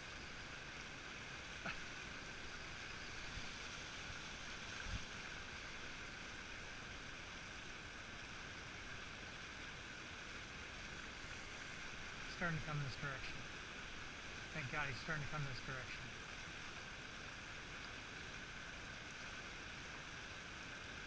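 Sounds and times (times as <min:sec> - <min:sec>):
river rushing over riffles: 0:00.0 - 0:20.8.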